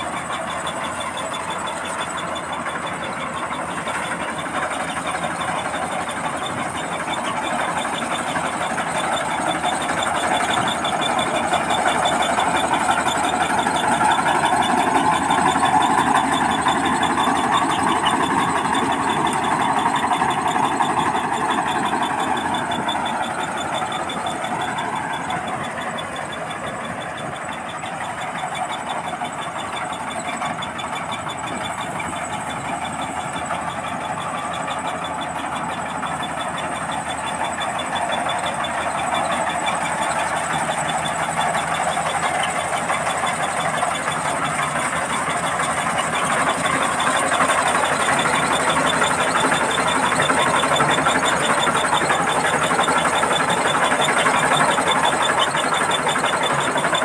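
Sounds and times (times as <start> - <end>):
combine harvester engine and machinery: 0.0 - 57.0.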